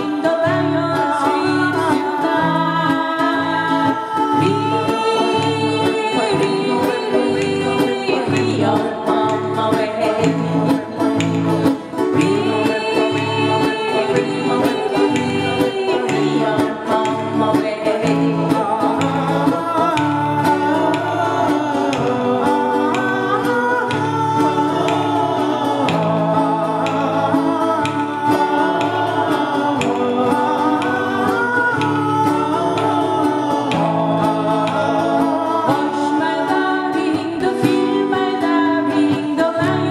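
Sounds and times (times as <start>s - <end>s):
acoustic guitars strummed: 0.0s - 39.9s
voices singing in harmony: 0.0s - 39.9s.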